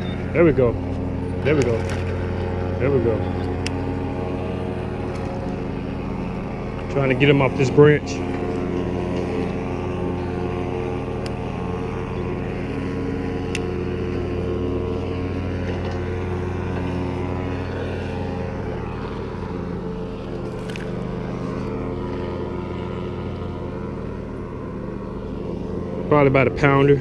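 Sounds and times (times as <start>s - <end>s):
motor droning: 0.0s - 27.0s.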